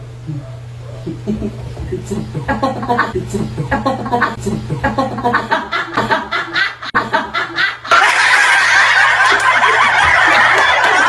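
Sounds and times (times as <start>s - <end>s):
group laughing: 1.1s - 11.0s.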